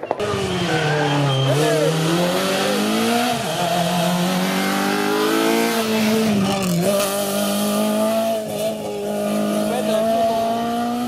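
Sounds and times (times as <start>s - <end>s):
rally car engine accelerating: 0.2s - 11.0s.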